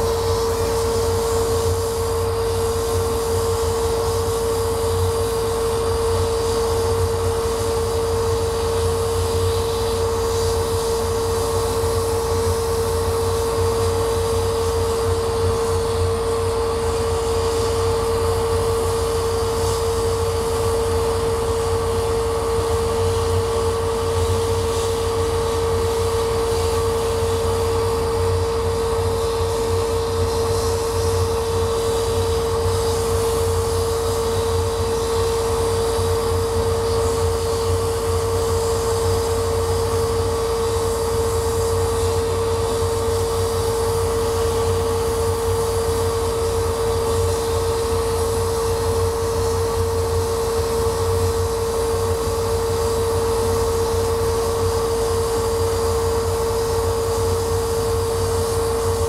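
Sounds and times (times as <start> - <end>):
laser cutter humming: 0.0 - 59.0.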